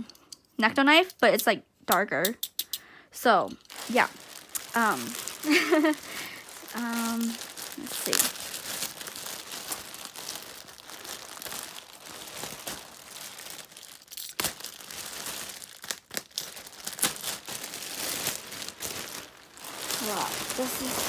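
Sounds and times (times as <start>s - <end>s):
plastic bag crinkling: 3.5s - 21.0s
sharp plastic crackles: 3.5s - 21.0s.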